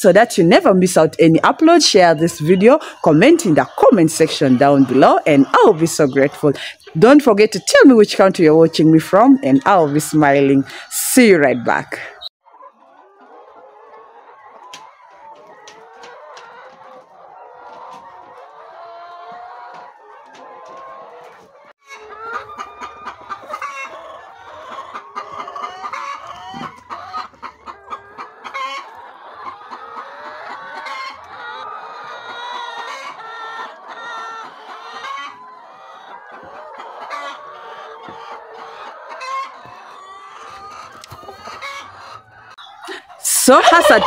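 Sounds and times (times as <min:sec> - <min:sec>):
hens clucking: 0:00.1 - 0:44.0.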